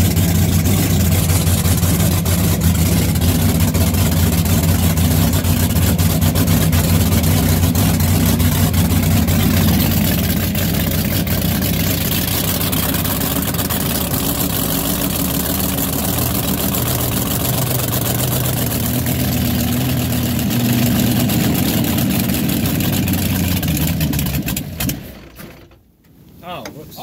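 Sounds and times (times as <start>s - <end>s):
boat engine idling loudly: 0.0s - 25.6s.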